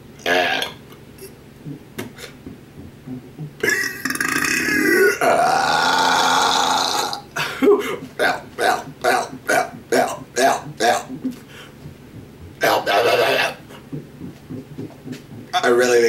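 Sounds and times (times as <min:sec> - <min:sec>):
man burping: 0:00.2 - 0:01.3, 0:03.2 - 0:16.0.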